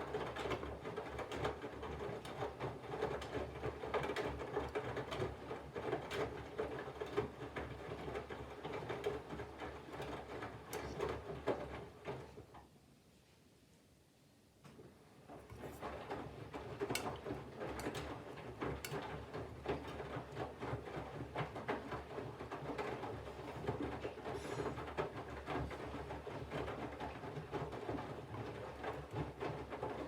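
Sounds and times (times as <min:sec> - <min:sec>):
wet laundry tumbling in water: 0:00.0 - 0:12.6, 0:15.0 - 0:30.0.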